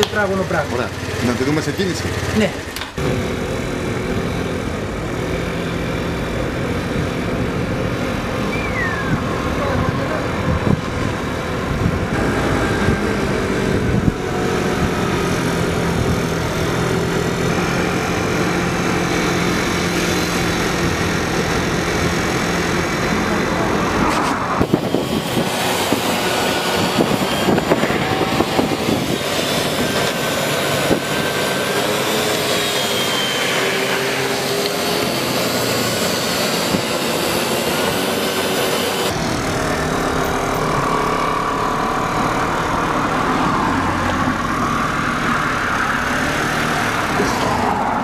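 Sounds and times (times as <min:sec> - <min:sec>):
small motorcycle engine revving: 0:00.0 - 0:48.0.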